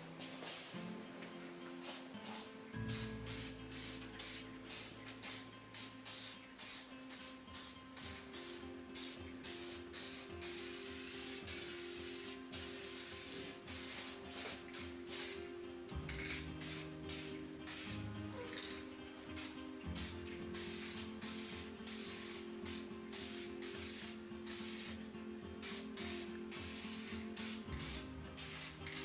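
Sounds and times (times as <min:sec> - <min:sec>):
aerosol spray can hissing: 0:01.9 - 0:29.0.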